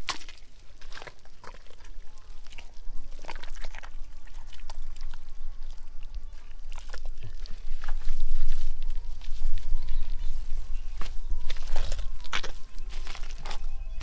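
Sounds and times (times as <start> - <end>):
wet mud squelching: 0.0 - 14.0.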